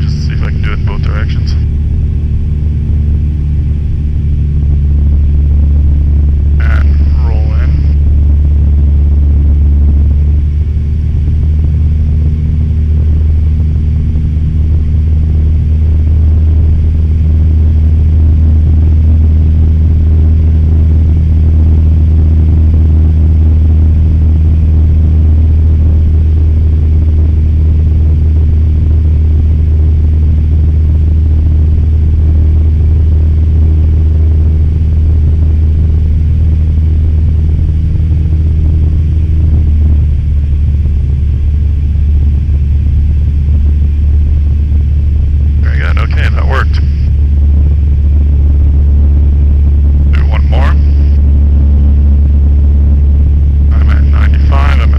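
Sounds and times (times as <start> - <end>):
aircraft engine droning: 0.0 - 54.9.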